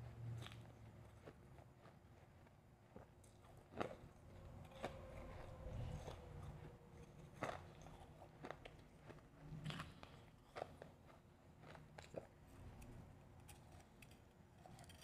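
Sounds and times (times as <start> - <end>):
person chewing crunchy ice: 0.3 - 15.0.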